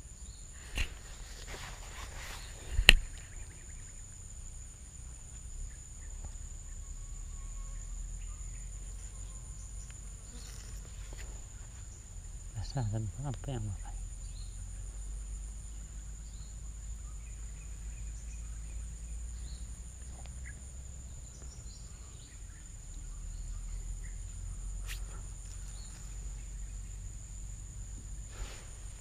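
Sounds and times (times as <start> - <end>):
faint bird chirps: 0.0 - 29.0
insects droning: 0.0 - 29.0.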